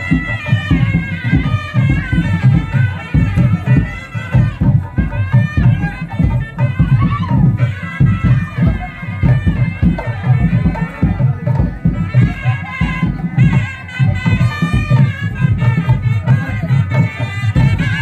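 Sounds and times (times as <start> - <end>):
drums beaten fast: 0.0 - 18.0
shrill reed pipe melody: 0.0 - 18.0.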